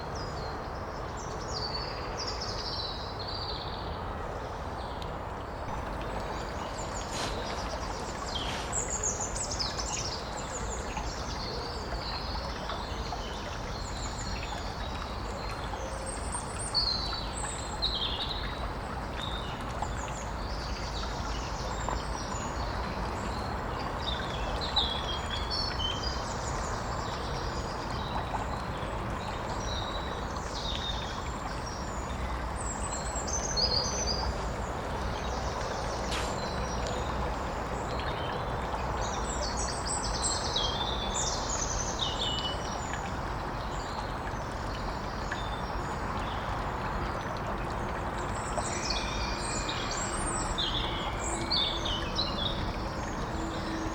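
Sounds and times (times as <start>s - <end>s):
flowing stream water: 0.0s - 53.9s.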